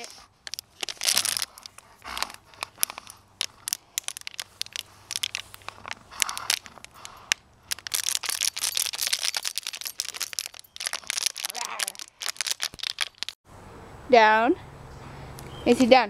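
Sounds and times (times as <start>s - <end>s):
plastic bottle crackling: 0.0s - 13.4s.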